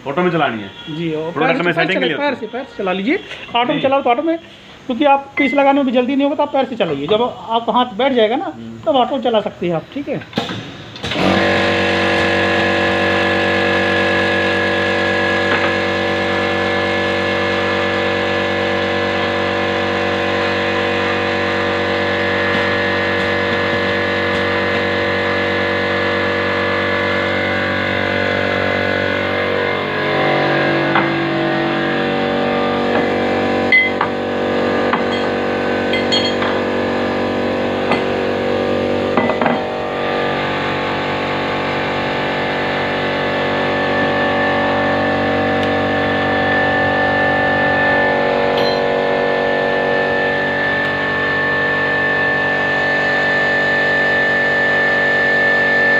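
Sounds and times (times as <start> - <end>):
motor humming: 11.0 - 55.9.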